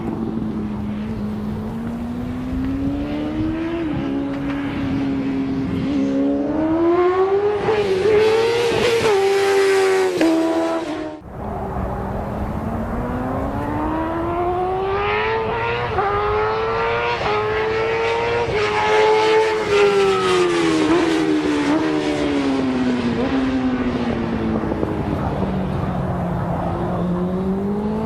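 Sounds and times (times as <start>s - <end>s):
motorcycle engine revving: 0.0s - 25.2s, 27.0s - 28.0s.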